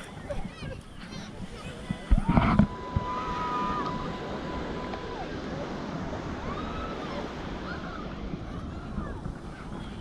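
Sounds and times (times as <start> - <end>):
waves breaking on shore: 0.0 - 10.0
wind on microphone: 0.0 - 10.0.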